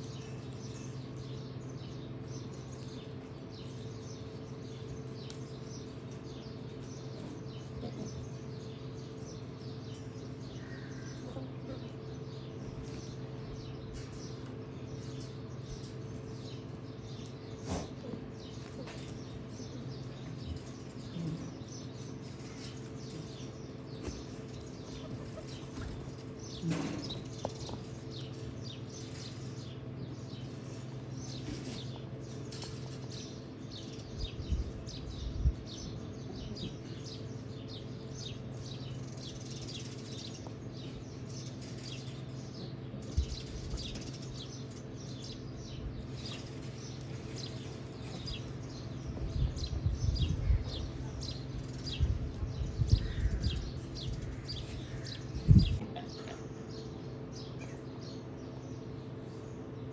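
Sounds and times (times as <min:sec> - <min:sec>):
small birds chirping: 0:00.0 - 0:59.9
steady low hum: 0:00.0 - 0:59.9.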